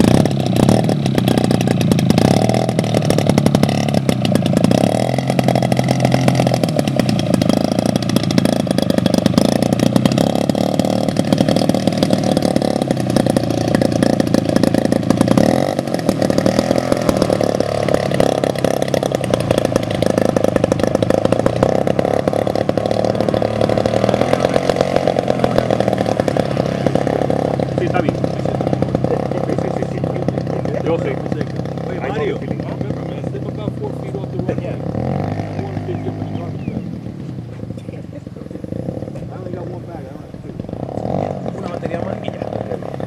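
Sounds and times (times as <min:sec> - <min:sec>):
model plane engine running: 0:00.0 - 0:43.0.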